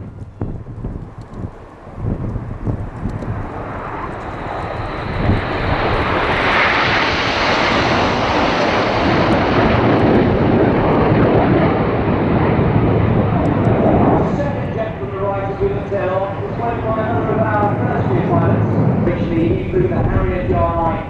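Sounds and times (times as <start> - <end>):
jets passing overhead: 0.0 - 21.0.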